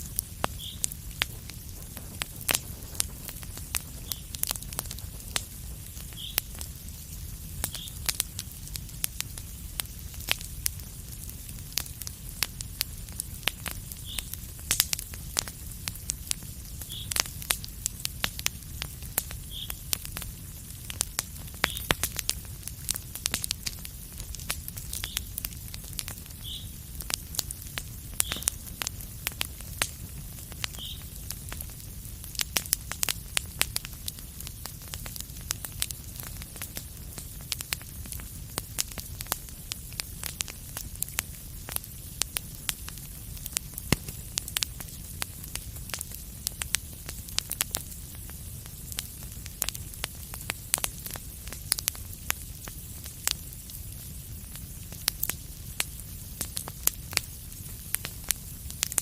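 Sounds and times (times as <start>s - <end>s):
fire crackling and popping: 0.0s - 59.0s
low fire rumble and hiss: 0.0s - 59.0s.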